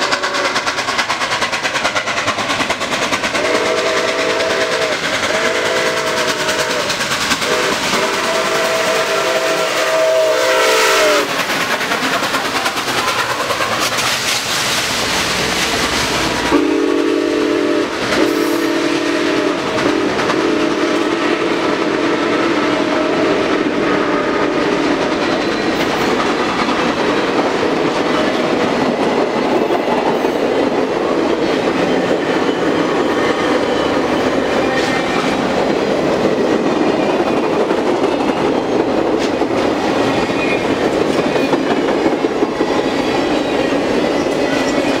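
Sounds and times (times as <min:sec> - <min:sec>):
train wheels clattering on rails: 0:00.0 - 0:45.0.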